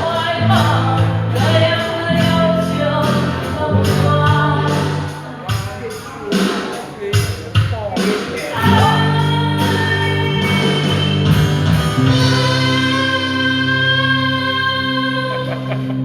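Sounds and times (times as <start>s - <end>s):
live pop band with guitar: 0.0s - 16.0s.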